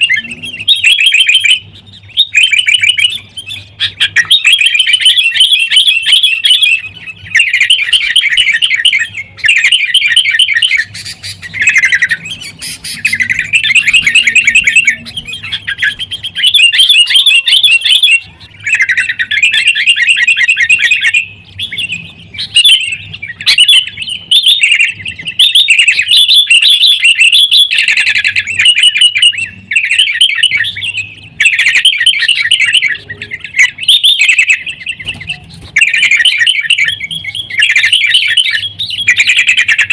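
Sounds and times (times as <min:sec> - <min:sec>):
birds chattering calls: 0:00.0 - 0:39.9.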